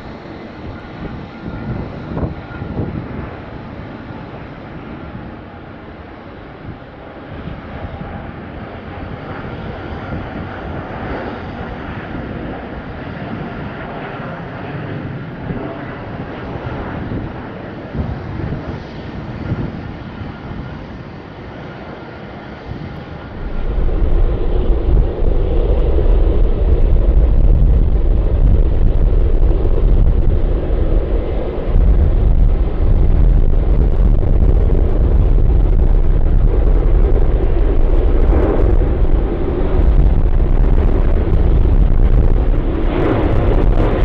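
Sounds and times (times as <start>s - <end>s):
jet engines at takeoff thrust: 0.0s - 44.0s.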